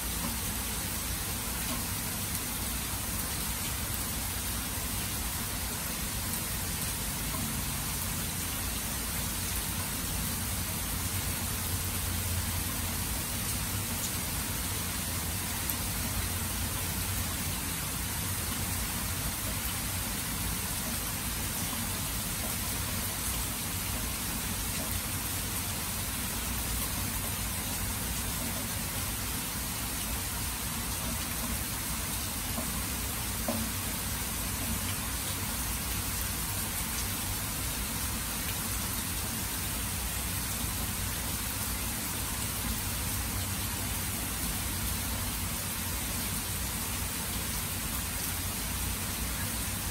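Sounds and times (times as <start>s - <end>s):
rain falling on grass and water: 0.0s - 49.9s.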